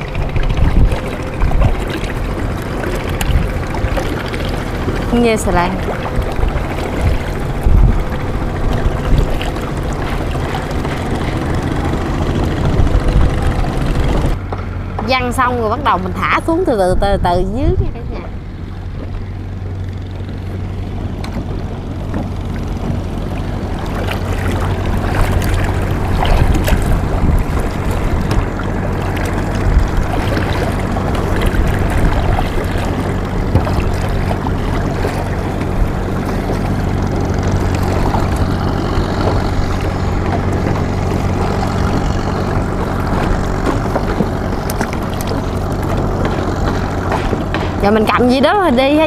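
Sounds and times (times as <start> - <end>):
rushing water: 0.0 - 14.4, 18.1 - 49.0
wind noise: 0.0 - 14.4, 16.7 - 19.3, 21.3 - 49.0
boat motor running: 0.0 - 49.0.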